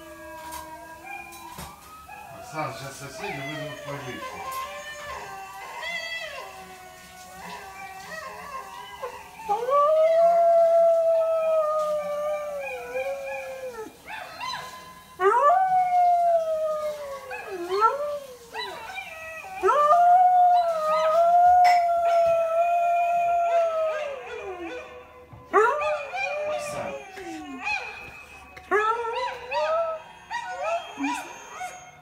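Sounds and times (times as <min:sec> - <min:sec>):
dog howling: 0:00.0 - 0:32.0.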